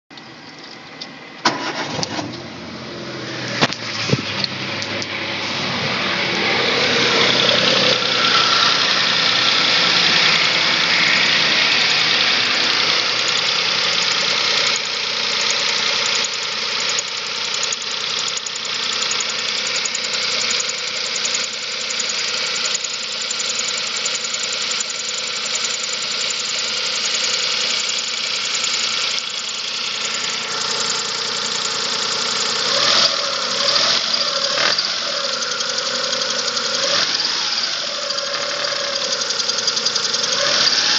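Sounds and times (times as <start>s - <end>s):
car engine idling with ticking knock: 0.1s - 2.4s, 3.6s - 5.2s, 6.5s - 40.9s.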